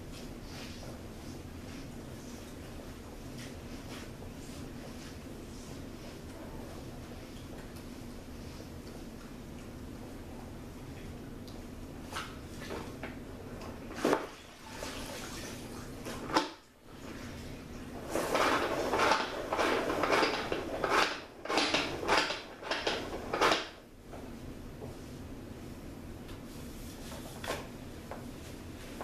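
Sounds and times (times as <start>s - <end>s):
mop scrubbing tile floor: 0.0s - 9.3s, 11.9s - 25.8s, 26.4s - 29.0s.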